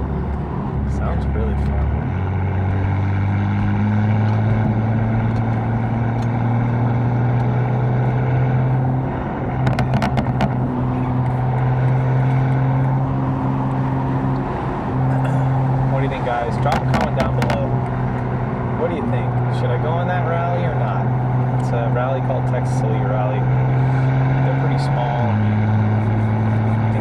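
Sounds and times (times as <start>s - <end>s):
car engine drone: 0.0s - 27.0s
exhaust cracks: 0.0s - 27.0s.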